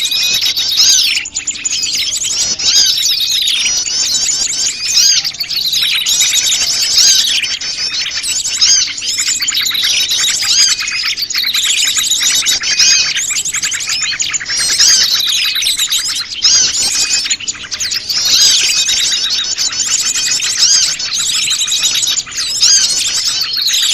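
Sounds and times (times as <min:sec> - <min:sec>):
small birds chirping and trilling: 0:00.0 - 0:23.9.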